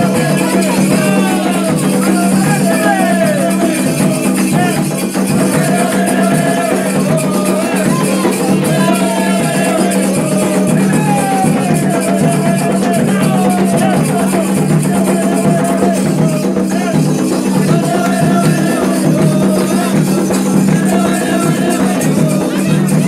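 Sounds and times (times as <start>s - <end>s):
shakers and percussion: 0.0s - 23.0s
voices singing: 0.0s - 23.0s.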